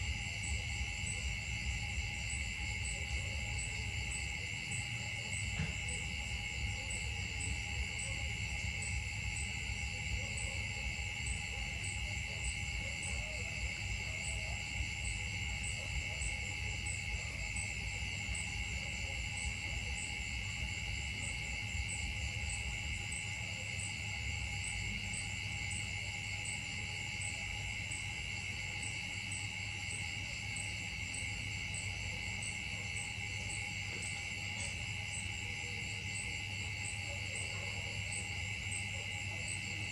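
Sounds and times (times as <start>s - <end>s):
insects droning: 0.0s - 39.9s
pulsing high insect call: 0.0s - 39.9s.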